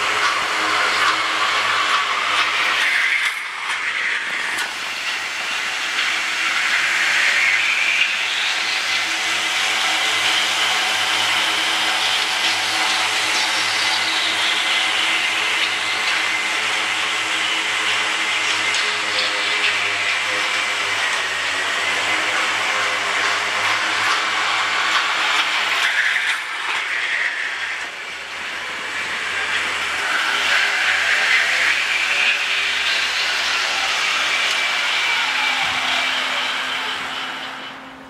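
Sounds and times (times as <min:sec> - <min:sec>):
mechanical lure hissing and whining: 0:00.0 - 0:38.0.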